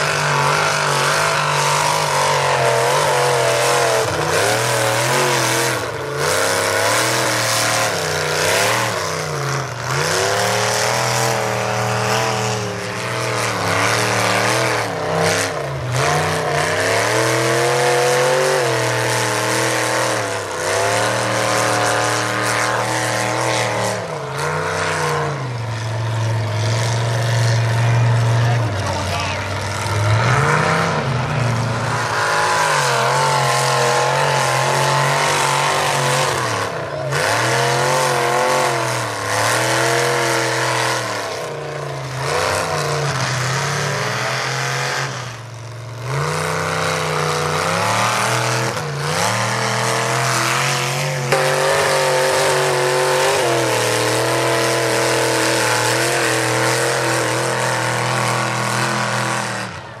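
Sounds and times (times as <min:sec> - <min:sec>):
truck engine revving hard: 0:00.0 - 1:00.0.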